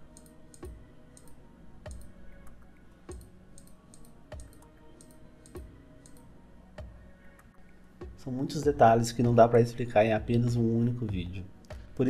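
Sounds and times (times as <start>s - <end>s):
soft thudding beat with clicks: 0.1s - 6.2s, 6.8s - 9.5s, 10.2s - 12.0s.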